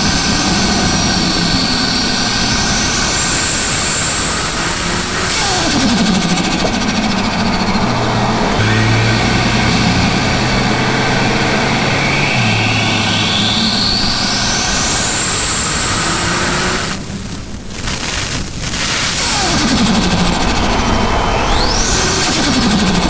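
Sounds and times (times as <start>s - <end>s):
car engine running: 0.0s - 23.0s
turbo whine: 0.0s - 23.0s.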